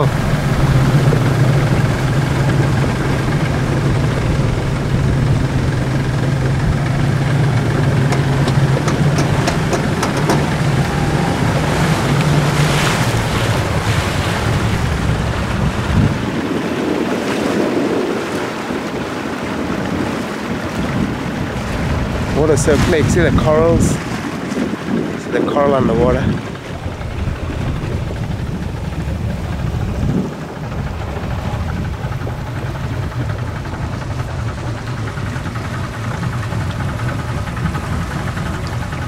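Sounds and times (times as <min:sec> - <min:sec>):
speedboat engine humming: 0:00.0 - 0:39.0
water rushing past: 0:00.0 - 0:39.0
wind: 0:00.0 - 0:39.0.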